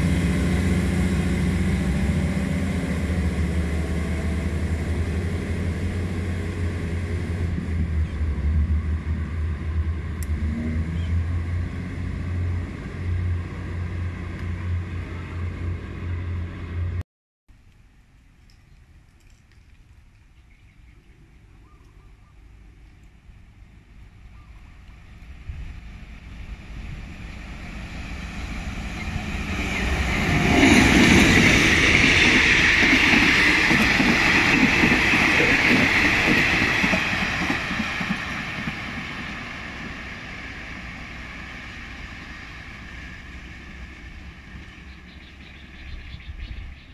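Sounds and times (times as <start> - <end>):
diesel locomotive passing: 0.0 - 17.0, 22.3 - 46.9
train coaches rumbling on rails: 0.0 - 17.0, 23.7 - 46.9.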